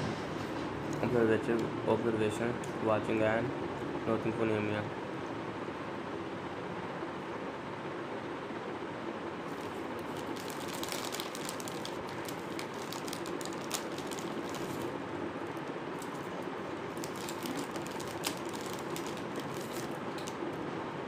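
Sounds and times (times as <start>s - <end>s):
room hiss and hum: 0.0s - 21.0s.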